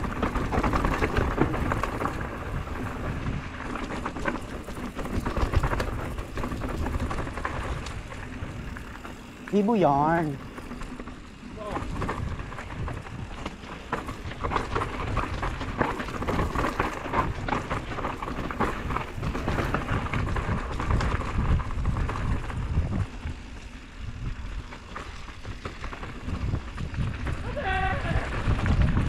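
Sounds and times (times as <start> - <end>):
bike tyres crunching over stones: 0.0 - 29.0
wind rumbling on microphone: 0.0 - 29.0.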